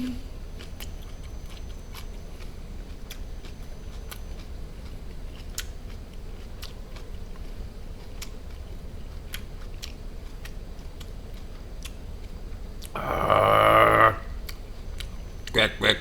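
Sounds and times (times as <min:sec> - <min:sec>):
close-up chewing: 0:00.5 - 0:15.6.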